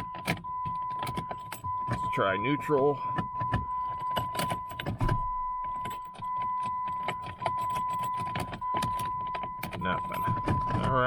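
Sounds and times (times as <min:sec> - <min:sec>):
key clicks and rattles: 0:00.0 - 0:02.1, 0:03.0 - 0:11.0
car warning chime: 0:00.0 - 0:11.0.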